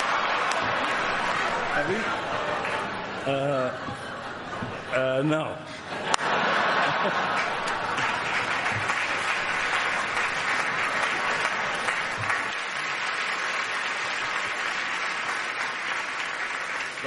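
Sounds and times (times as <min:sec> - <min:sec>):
audience applauding: 0:00.0 - 0:03.9, 0:06.1 - 0:17.0.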